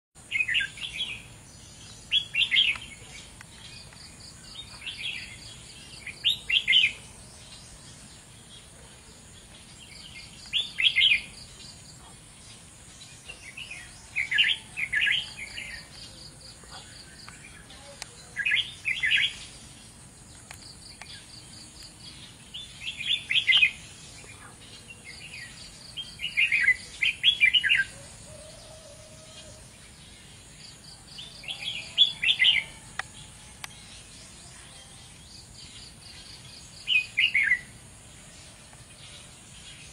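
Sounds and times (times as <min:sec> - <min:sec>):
bird singing warbled phrases: 0:00.2 - 0:37.9.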